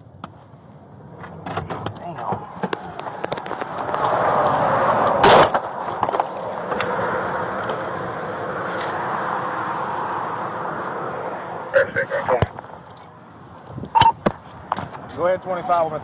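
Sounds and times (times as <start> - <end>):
truck rushing: 0.8 - 15.2.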